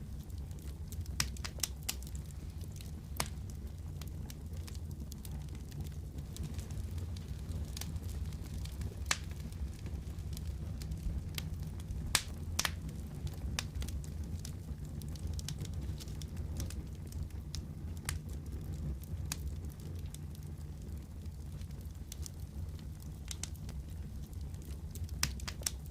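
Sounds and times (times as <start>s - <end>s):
fire crackling and popping: 0.0s - 25.9s
low rumble of fire: 0.0s - 25.9s.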